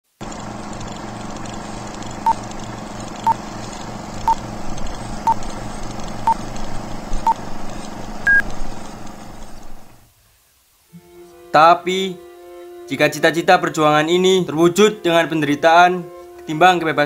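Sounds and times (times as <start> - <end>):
rattling hum and hiss: 0.2 - 17.0.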